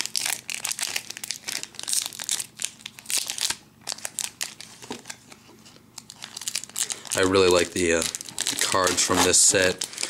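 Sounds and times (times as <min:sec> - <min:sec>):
foil wrapper crinkling: 0:00.0 - 0:05.2, 0:06.0 - 0:10.0.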